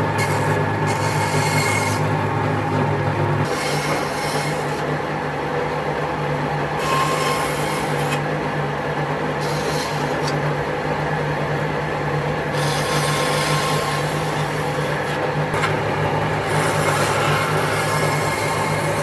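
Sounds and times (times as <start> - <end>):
woodworking power tool humming: 0.0 - 19.0.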